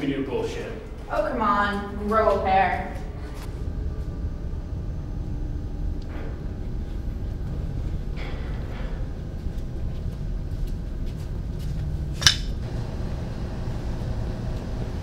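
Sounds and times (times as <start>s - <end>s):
low rumble: 0.7s - 15.0s.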